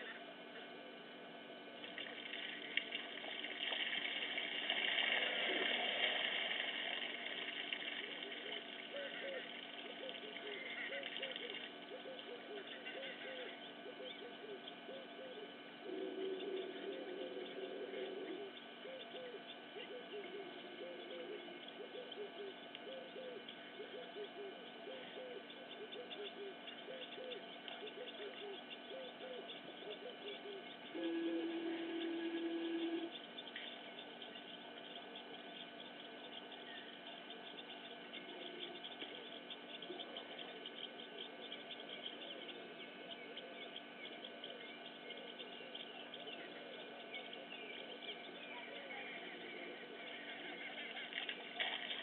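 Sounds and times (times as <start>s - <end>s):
steady low tone: 0.0s - 51.8s
small birds chirping chorus: 0.0s - 52.0s
low falling animal calls: 4.8s - 52.0s.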